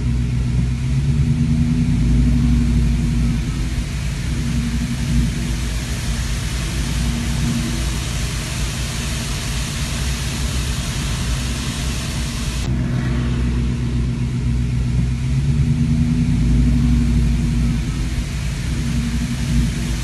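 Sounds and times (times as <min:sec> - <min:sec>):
car engines humming: 0:00.0 - 0:20.0
road traffic: 0:00.0 - 0:20.0.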